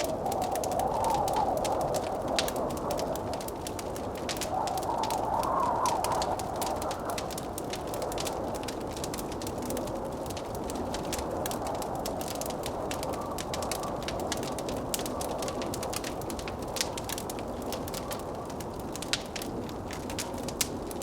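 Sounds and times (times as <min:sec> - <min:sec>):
rushing blizzard wind: 0:00.0 - 0:21.0
wood fire crackling: 0:00.0 - 0:21.0.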